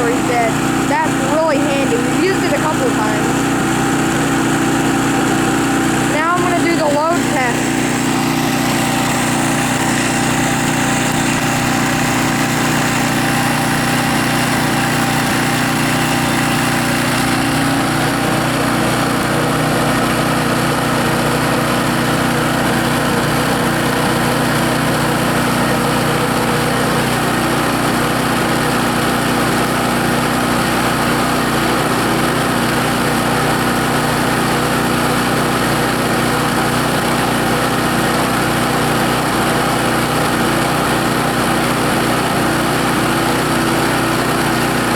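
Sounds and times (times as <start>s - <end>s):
generator engine bogging down: 0.0s - 44.9s
portable generator engine running: 0.0s - 44.9s.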